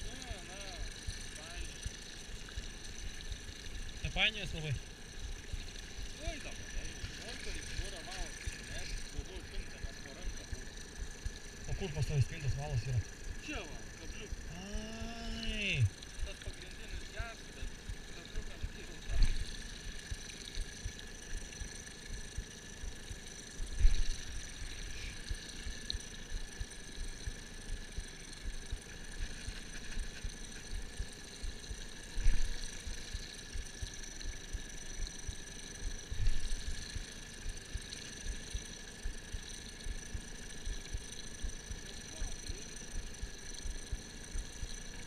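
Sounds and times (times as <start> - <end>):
faint high whine: 0.0 - 45.0.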